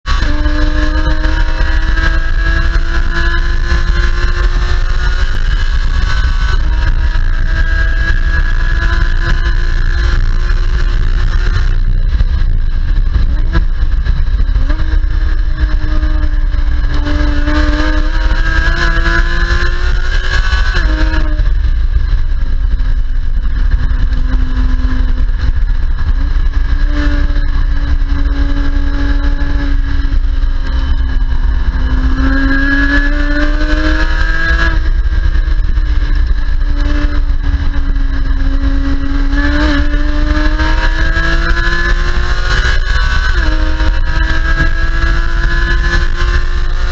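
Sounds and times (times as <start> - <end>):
car engine accelerating hard: 0.0 - 46.9
low road rumble: 0.0 - 46.9.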